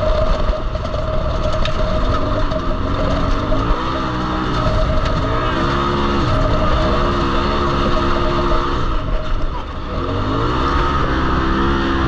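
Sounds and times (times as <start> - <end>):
off-road vehicle engine revving: 0.0 - 12.0
steady whine: 0.0 - 12.0.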